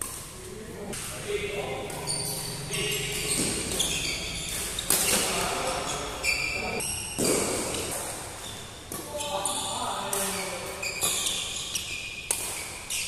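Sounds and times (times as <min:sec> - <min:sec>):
rackets hitting shuttlecock: 0:00.0 - 0:13.0
shoes squeaking on court: 0:01.0 - 0:13.0.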